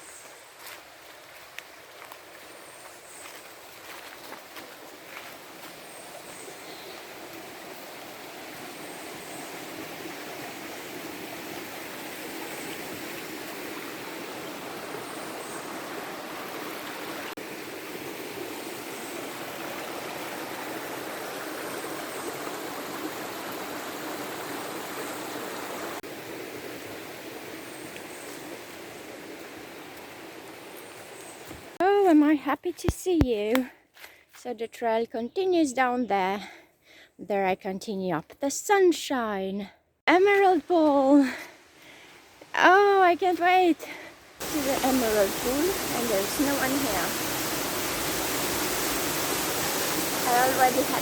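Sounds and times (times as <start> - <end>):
stream of running water: 0.0 - 31.8, 40.2 - 51.0.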